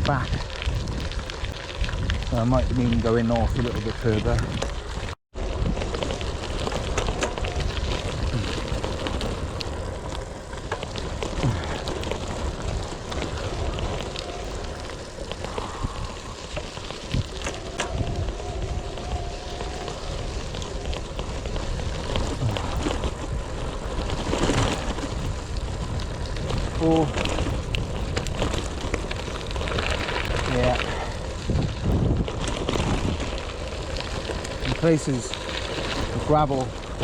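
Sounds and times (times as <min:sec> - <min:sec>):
bicycle tyres crunching on gravel: 0:00.0 - 0:37.0
bike rattling: 0:00.0 - 0:37.0.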